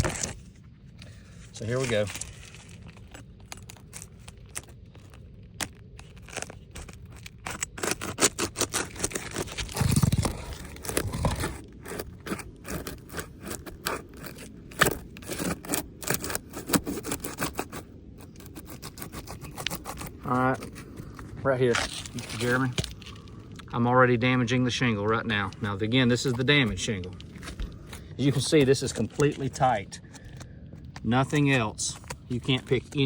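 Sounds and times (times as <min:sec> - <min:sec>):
shingles scraping and tearing: 0:00.0 - 0:23.5, 0:25.1 - 0:33.0.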